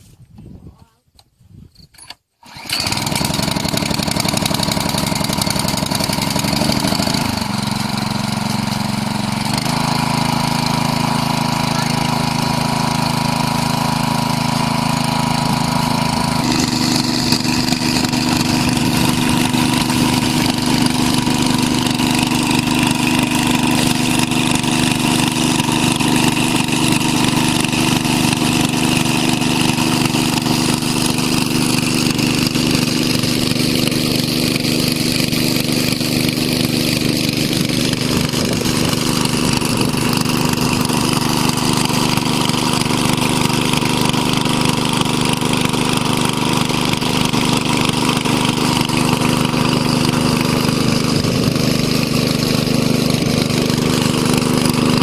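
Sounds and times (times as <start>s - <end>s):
small engine humming: 2.4s - 55.0s.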